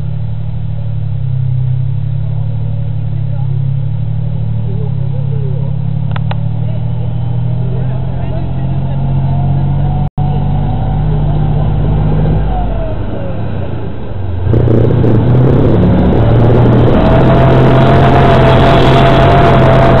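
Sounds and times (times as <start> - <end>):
steady whine: 0.0 - 20.0
tank diesel engine running: 0.0 - 20.0.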